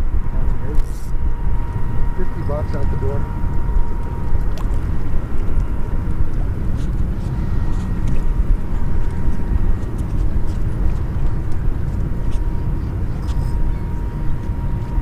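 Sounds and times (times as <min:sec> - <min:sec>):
faint thin whine: 0:00.0 - 0:15.0
wind buffeting microphone: 0:00.0 - 0:15.0.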